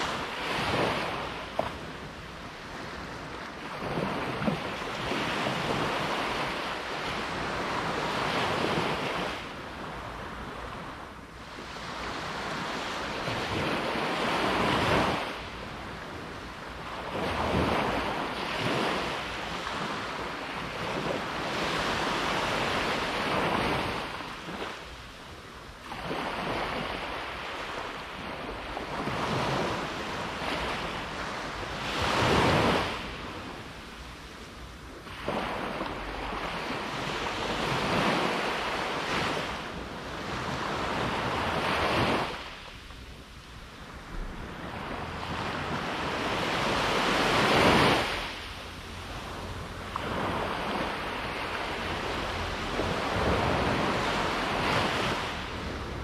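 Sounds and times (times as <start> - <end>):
sea waves breaking on a beach: 0.0 - 56.0.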